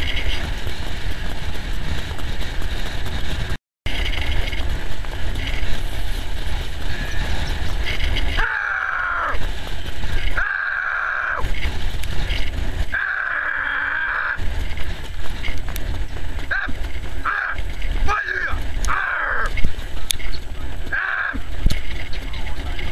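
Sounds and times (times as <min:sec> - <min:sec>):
cart rattling: 0:00.0 - 0:22.9
wind rushing over microphone: 0:00.0 - 0:22.9.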